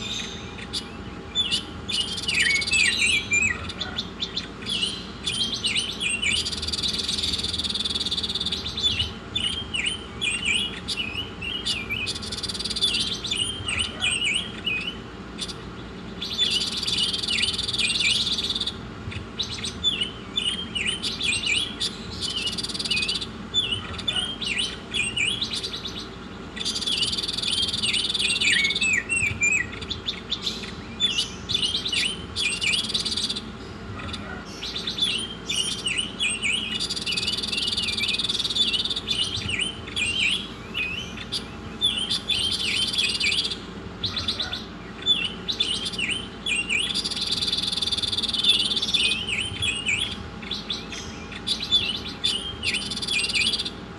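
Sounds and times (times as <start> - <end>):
songbird singing: 0.0 - 53.9
steady low hum: 0.0 - 53.9.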